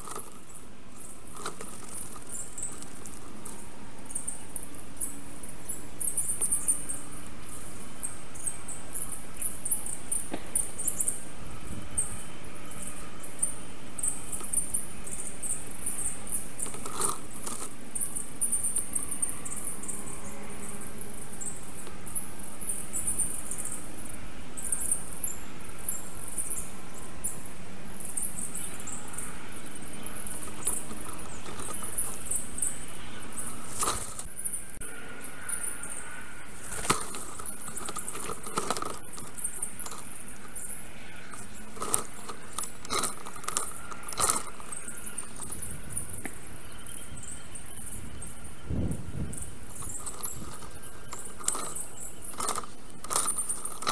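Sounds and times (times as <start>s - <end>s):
high-pitched bird chatter: 0.0s - 11.3s, 11.9s - 20.0s, 24.6s - 53.9s.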